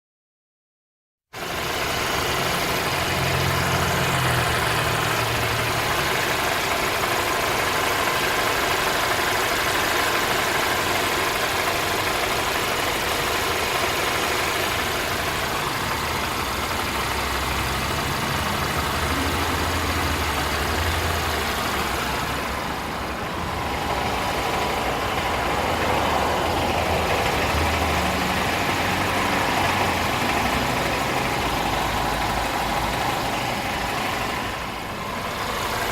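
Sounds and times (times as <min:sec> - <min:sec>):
car engine idling: 0:01.4 - 0:35.9.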